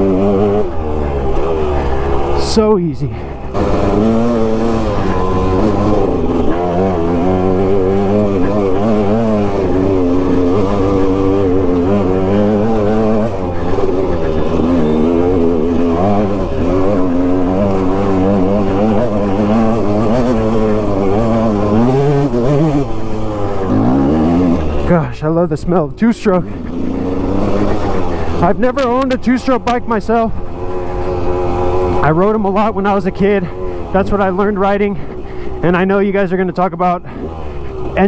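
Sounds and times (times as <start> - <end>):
two-stroke motorcycle engine revving: 0.0 - 38.0.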